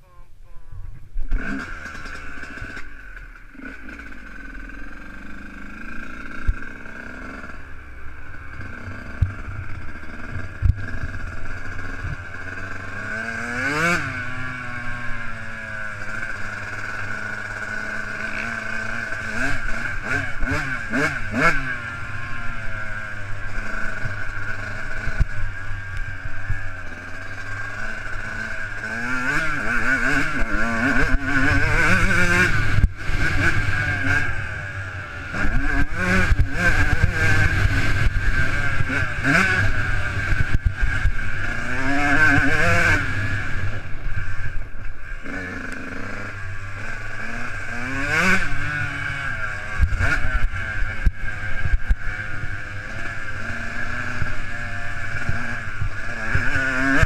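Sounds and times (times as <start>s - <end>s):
motocross bike engine revving: 1.2s - 57.0s.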